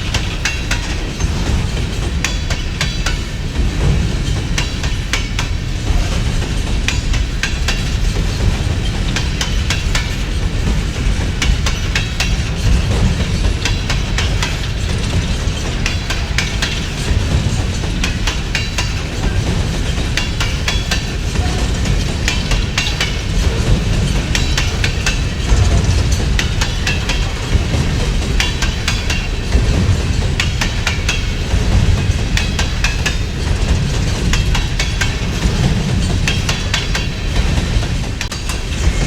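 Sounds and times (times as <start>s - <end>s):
freight train rumbling past: 0.0s - 39.0s
wheels clicking and clanking: 0.0s - 39.0s.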